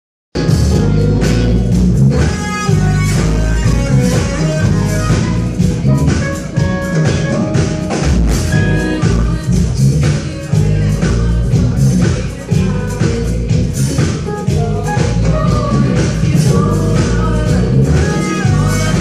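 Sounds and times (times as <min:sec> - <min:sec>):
loud band music: 0:00.4 - 0:19.0.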